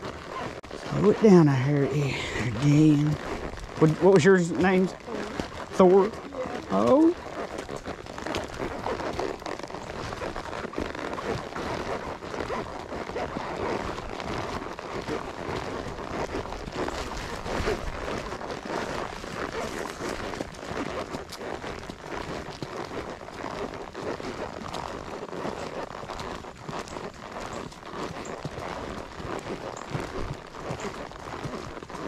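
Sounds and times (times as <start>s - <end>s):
horse hoofbeats on a trail: 0.0s - 32.0s.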